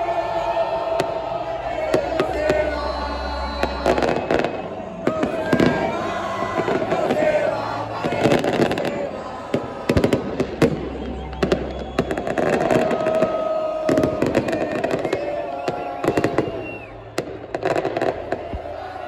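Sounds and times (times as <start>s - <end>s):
large crowd noise: 0.0s - 19.0s
fireworks bangs and crackles: 3.5s - 19.0s.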